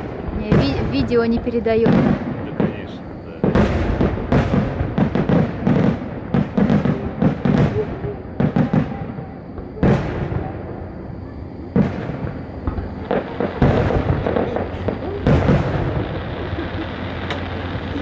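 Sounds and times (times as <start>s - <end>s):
fireworks booming and crackling: 0.0s - 18.0s
loud firework bang: 1.8s - 10.6s, 11.8s - 18.0s.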